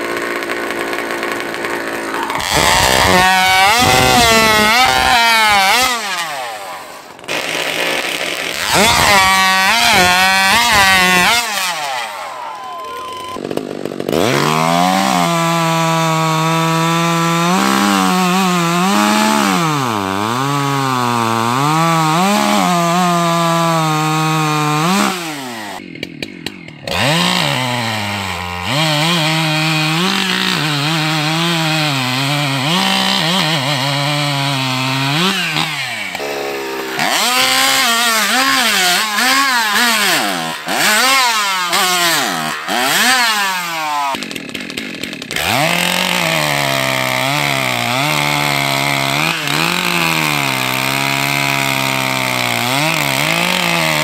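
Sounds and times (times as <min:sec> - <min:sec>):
racing chainsaws cutting timber: 0:00.0 - 0:54.0.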